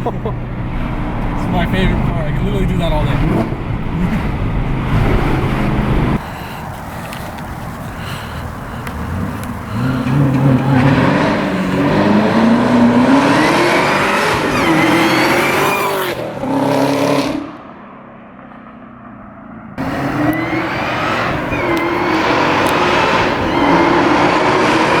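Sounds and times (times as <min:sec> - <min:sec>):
car engine accelerating hard: 0:00.0 - 0:06.2, 0:08.4 - 0:17.6, 0:19.8 - 0:25.0.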